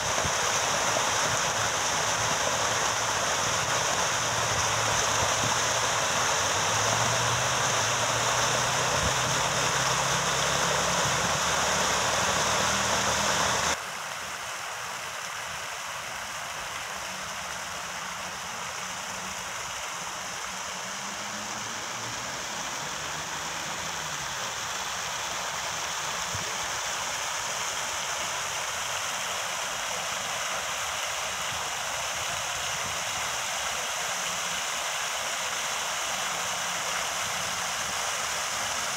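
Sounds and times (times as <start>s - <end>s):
fountain water splashing: 0.0s - 38.9s.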